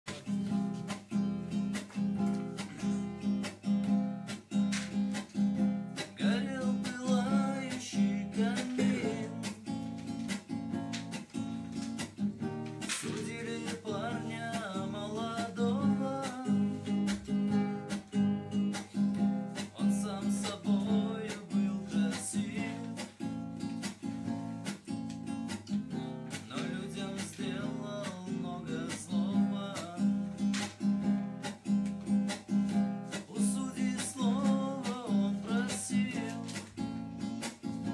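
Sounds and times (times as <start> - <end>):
acoustic guitar strumming: 0.1 - 37.9.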